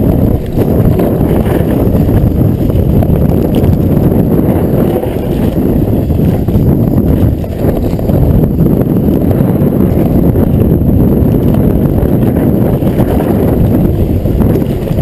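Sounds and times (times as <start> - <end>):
bike rattling over rough trail: 0.0 - 15.0
wind buffeting microphone: 0.0 - 15.0.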